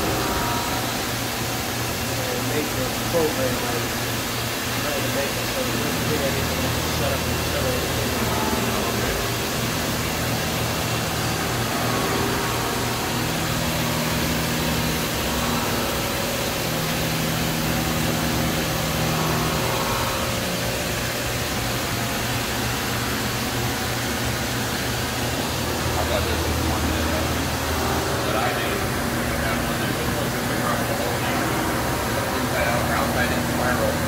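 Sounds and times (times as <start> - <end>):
machine hum with changing tones: 0.0 - 34.0.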